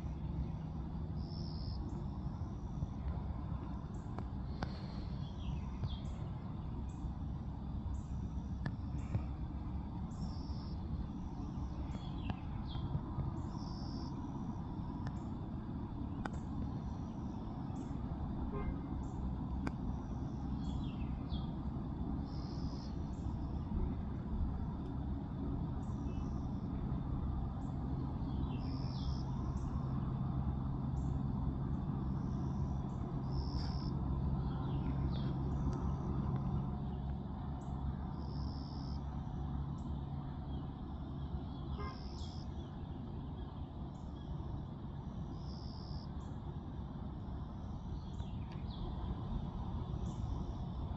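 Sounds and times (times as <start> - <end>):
songbirds chirping and whistling: 0.0 - 39.0, 39.6 - 46.4, 47.6 - 50.9.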